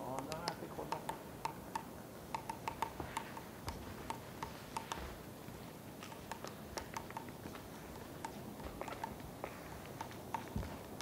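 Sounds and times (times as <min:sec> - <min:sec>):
woodpecker tapping on wood: 0:00.0 - 0:05.0, 0:06.0 - 0:07.6, 0:08.2 - 0:11.0.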